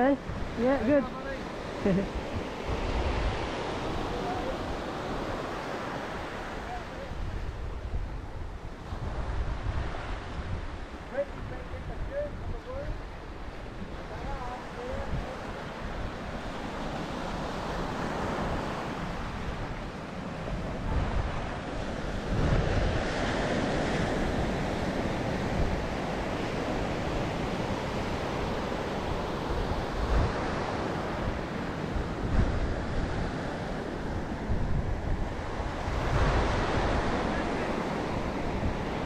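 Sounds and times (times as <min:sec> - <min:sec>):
ocean surf on beach: 0:00.0 - 0:39.0
wind buffeting microphone: 0:00.0 - 0:39.0.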